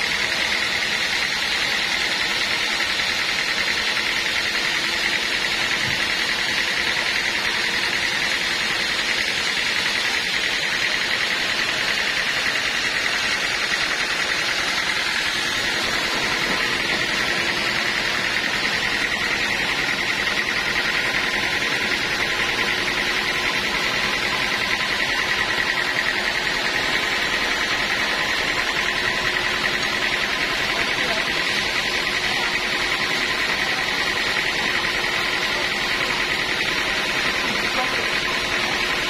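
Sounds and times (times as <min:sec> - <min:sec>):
band saw whining: 0:00.0 - 0:39.0.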